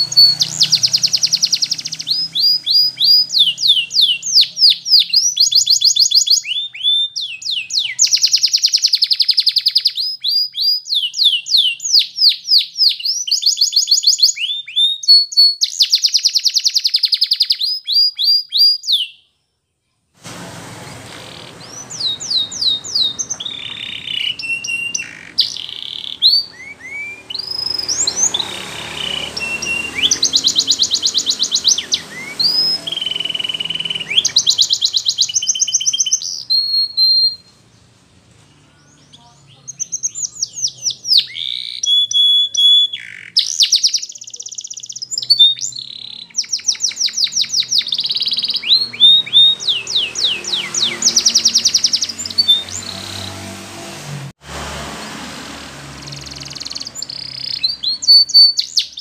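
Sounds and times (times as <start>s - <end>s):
canary singing: 0.0s - 19.3s, 20.9s - 53.6s, 55.7s - 59.0s.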